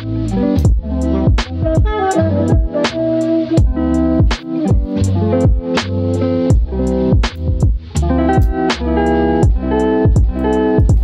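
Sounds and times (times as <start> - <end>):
steady drum beat: 0.0 - 11.0
sustained music chords: 0.0 - 11.0.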